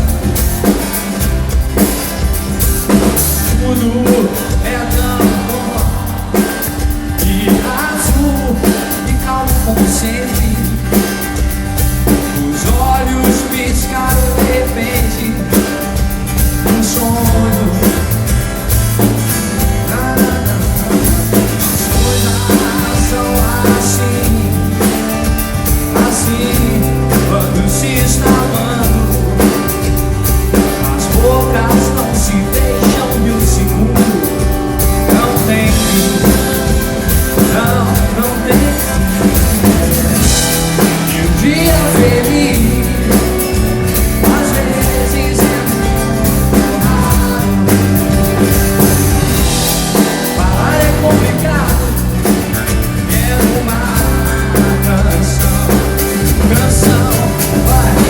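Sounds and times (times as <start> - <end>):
live pop-rock band: 0.0 - 58.0
person singing: 2.9 - 11.4, 12.1 - 18.7, 19.6 - 58.0.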